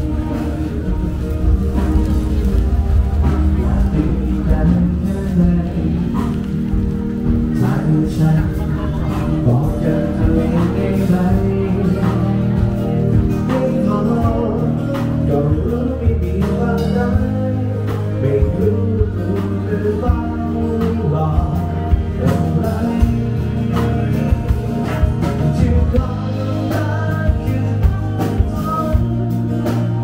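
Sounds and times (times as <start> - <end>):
drum beat and bass: 0.0 - 30.0
person singing: 0.0 - 30.0.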